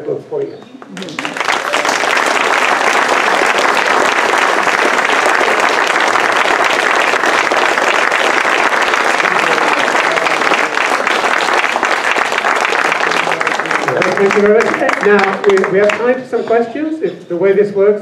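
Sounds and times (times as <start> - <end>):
audience applauding: 0.8 - 16.1.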